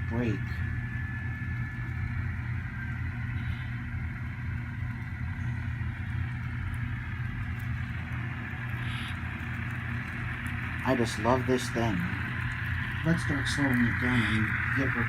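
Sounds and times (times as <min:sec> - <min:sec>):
diesel engine rumble: 0:00.0 - 0:15.0
dynamic brake whine: 0:00.0 - 0:15.0.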